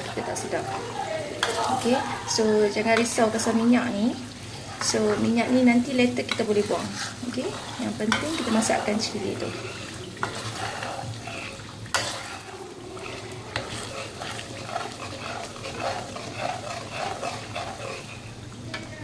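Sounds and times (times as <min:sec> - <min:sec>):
chili paste frying in oil: 0:00.0 - 0:19.0
utensil stirring and scraping: 0:00.0 - 0:19.0.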